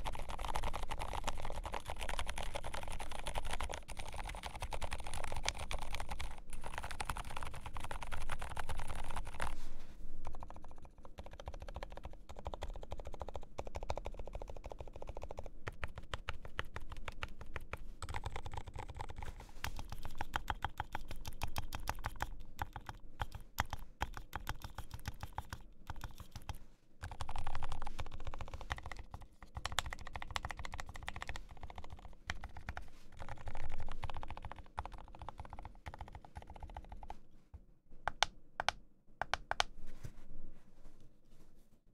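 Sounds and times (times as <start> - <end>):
mechanical keyboard typing: 0.0 - 9.5, 10.2 - 37.1.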